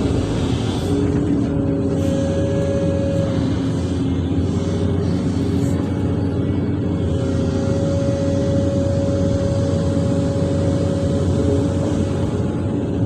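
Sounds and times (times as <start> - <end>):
excavator diesel engine running: 0.0 - 13.0
steady whine: 0.0 - 13.0.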